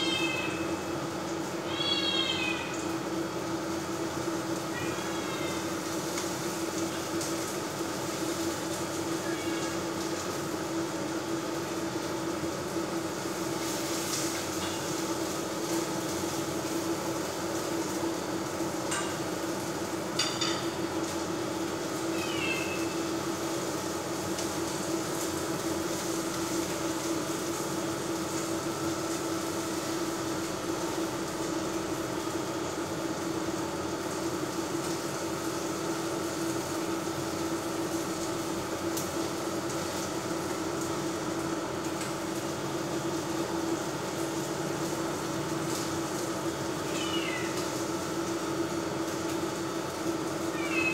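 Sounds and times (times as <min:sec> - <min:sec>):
food frying hiss: 0:00.0 - 0:50.9
induction hob hum: 0:00.0 - 0:50.9.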